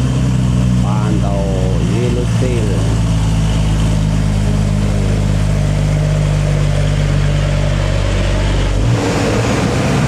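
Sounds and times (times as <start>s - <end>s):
truck diesel engine: 0.0s - 10.0s.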